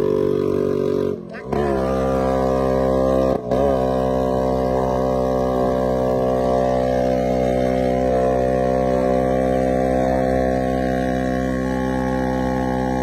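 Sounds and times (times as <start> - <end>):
scooter engine droning: 0.0 - 13.0.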